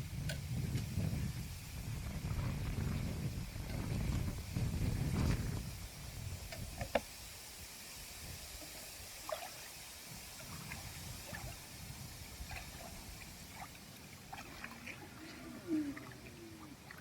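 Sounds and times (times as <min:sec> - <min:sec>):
water splashes and drips: 0:00.1 - 0:17.0.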